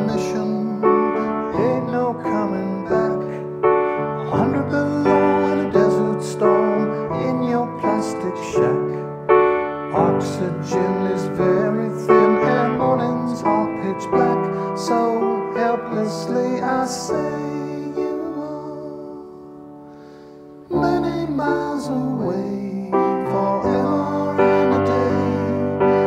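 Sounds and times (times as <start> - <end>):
man singing: 0.0 - 19.5, 20.7 - 26.0
grand piano chords: 0.0 - 26.0.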